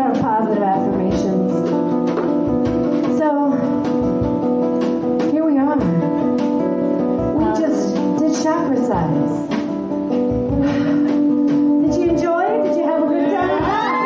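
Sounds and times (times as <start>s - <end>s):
live band with guitar: 0.0s - 14.0s
pitch-bending melody: 0.9s - 14.0s.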